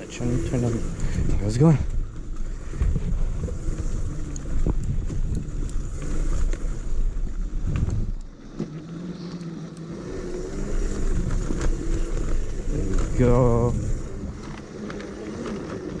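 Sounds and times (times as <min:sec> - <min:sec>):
wind rushing over microphone: 0:00.0 - 0:08.5, 0:10.0 - 0:16.0
electric motor hum: 0:00.0 - 0:16.0.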